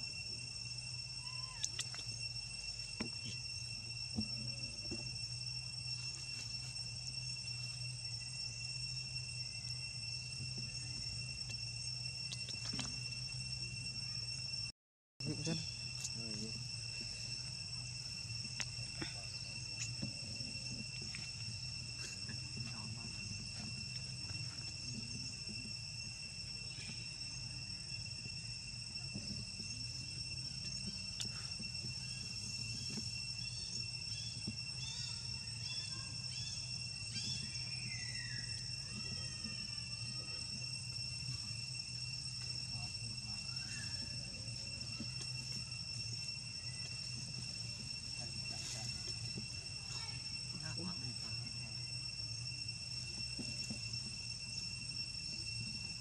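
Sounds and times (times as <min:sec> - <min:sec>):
high-pitched insect buzzing: 0:00.0 - 0:56.0.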